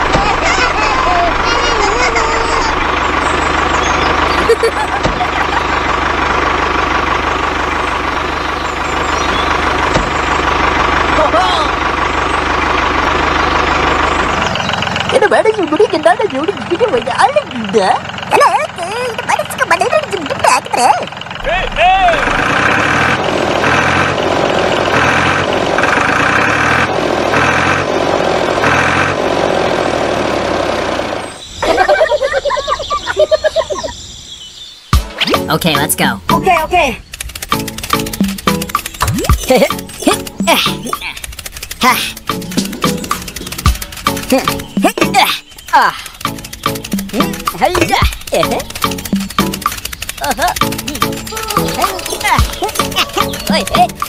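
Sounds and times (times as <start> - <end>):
tractor engine chugging: 0.0 - 34.0, 35.3 - 54.0.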